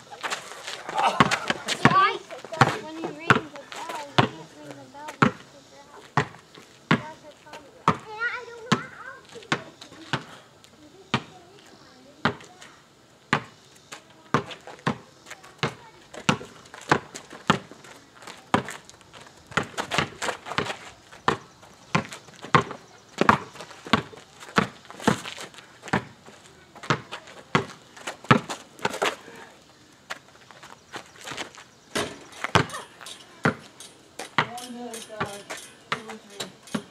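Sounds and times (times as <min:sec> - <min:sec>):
basketball bouncing on asphalt: 0:00.2 - 0:10.4, 0:11.1 - 0:11.5, 0:12.2 - 0:12.7, 0:13.3 - 0:29.2, 0:30.1 - 0:32.8, 0:33.4 - 0:36.9.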